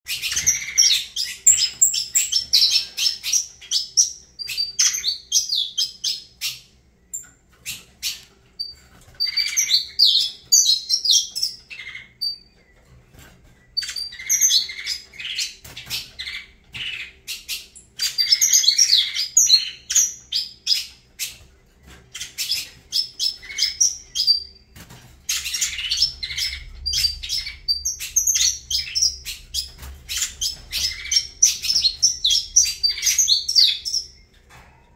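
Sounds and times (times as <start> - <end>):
finch singing high chirps: 0.1 - 34.5.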